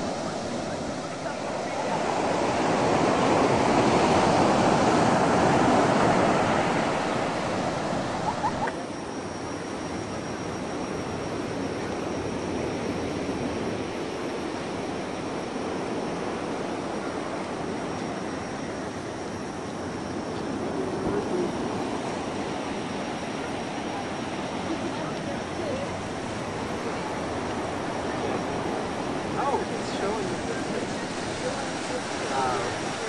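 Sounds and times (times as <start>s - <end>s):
ocean surf washing on beach: 0.0s - 33.0s.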